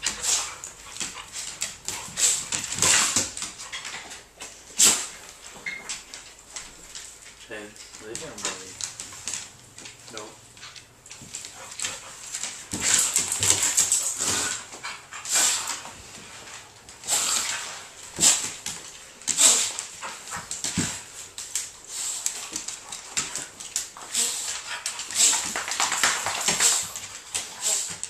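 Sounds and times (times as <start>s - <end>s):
dogs play noises: 0.0s - 28.0s
dogs scuffling: 0.0s - 28.0s
paws on hardwood floor: 0.0s - 28.0s.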